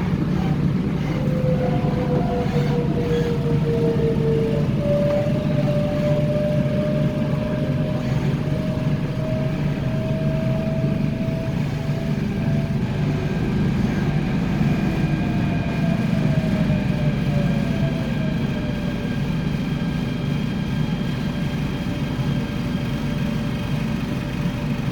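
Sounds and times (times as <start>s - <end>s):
electric traction whine: 0.0s - 24.8s
train rumbling along track: 0.0s - 24.9s.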